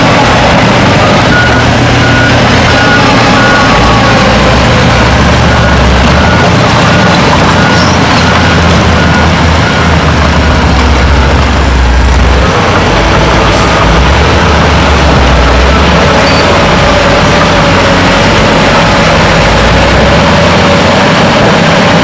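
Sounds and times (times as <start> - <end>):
heavy diesel machinery engines: 0.0 - 22.0.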